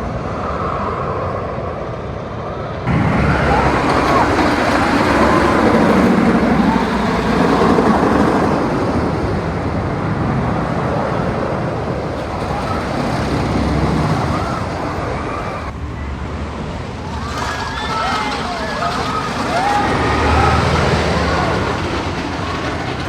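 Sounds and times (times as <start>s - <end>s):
roller coaster wheels rumbling: 0.0s - 23.0s
rushing wind: 0.0s - 23.0s
faint rider voices: 2.9s - 9.8s, 10.8s - 23.0s.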